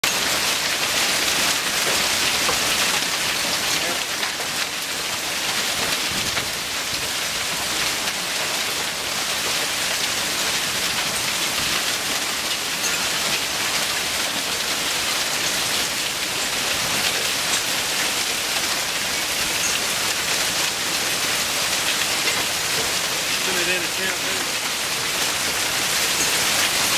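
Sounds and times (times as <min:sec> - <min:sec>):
hail and rain pelting: 0:00.0 - 0:26.9.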